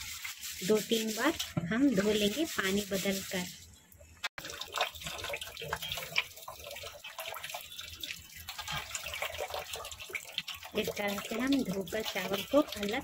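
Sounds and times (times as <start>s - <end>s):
water swishing in a metal bowl: 0.0s - 13.0s.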